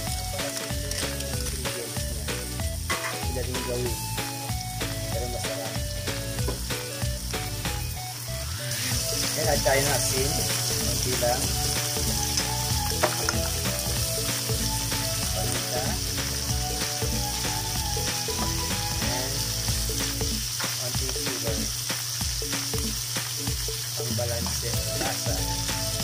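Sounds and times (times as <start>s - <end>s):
background music: 0.0s - 26.0s
mussels sizzling in a wok: 0.0s - 26.0s.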